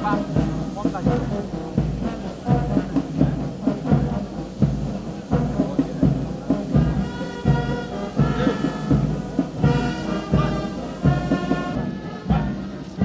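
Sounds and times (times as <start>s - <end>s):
brass band notes: 0.0s - 13.0s
steady drum beat: 0.0s - 13.0s.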